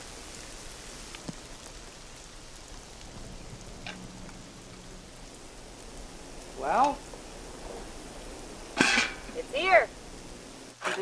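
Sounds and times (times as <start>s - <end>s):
falling wet snow and rain: 0.0s - 11.0s.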